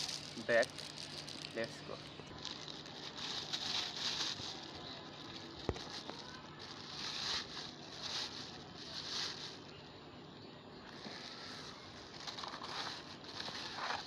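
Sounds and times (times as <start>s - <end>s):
plastic bag rustling: 0.0s - 9.8s, 10.9s - 14.0s.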